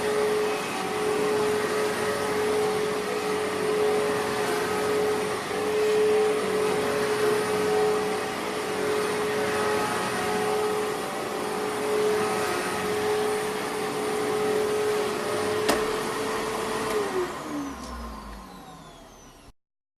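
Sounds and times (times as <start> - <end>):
vacuum cleaner motor whining: 0.0 - 19.6.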